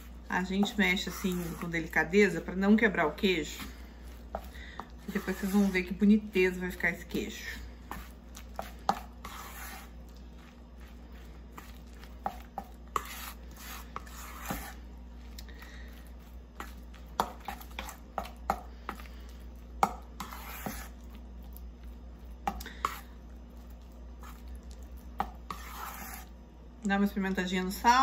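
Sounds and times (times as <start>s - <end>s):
spoon scraping through dough: 0.0s - 26.4s.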